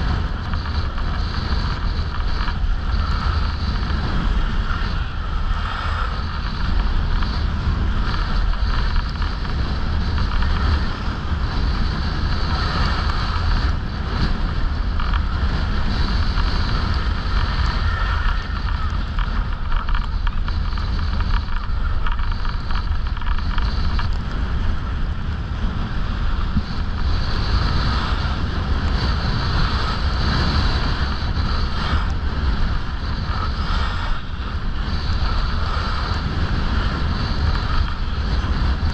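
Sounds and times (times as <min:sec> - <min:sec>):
skis sliding on packed snow: 0:00.0 - 0:38.9
wind buffeting microphone: 0:00.0 - 0:38.9.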